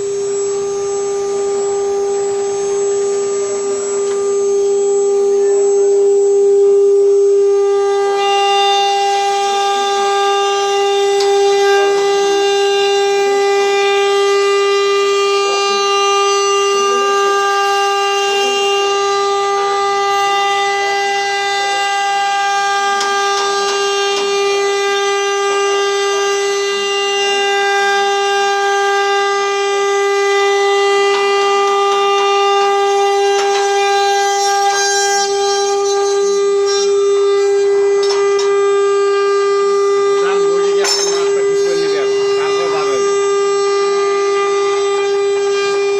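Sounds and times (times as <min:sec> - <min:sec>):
high-pitched spindle whine: 0:00.0 - 0:45.9.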